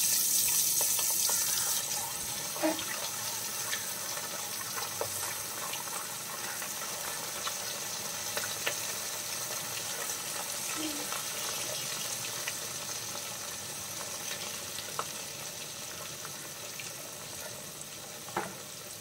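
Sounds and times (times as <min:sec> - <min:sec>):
fish sizzling in hot oil: 0:00.0 - 0:19.0
oil popping and crackling: 0:00.0 - 0:19.0.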